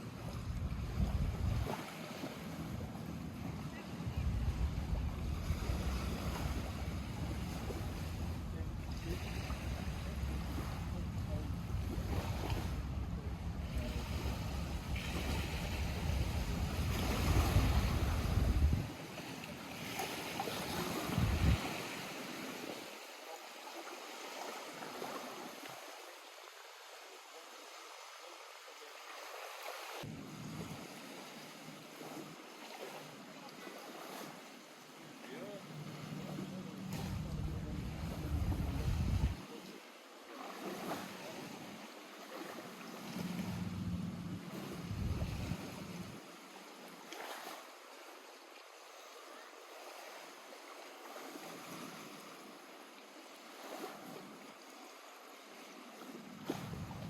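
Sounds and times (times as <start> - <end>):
lake water lapping at shore: 0.0 - 57.0.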